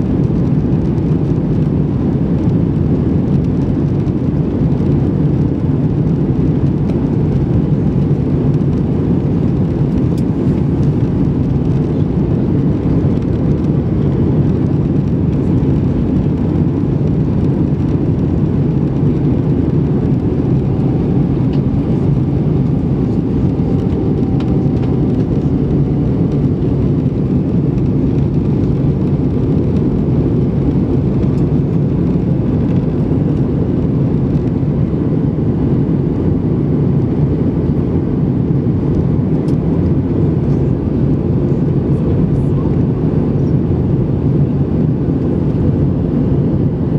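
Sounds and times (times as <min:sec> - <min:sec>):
jet engines roaring in cabin: 0:00.0 - 0:46.9.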